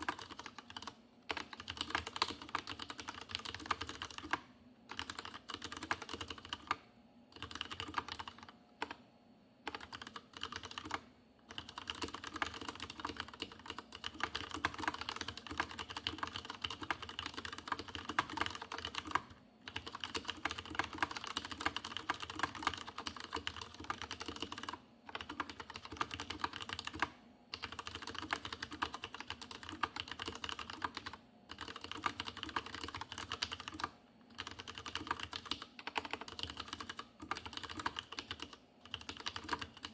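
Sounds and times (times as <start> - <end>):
mechanical keyboard typing: 0.0 - 9.0, 9.6 - 39.9.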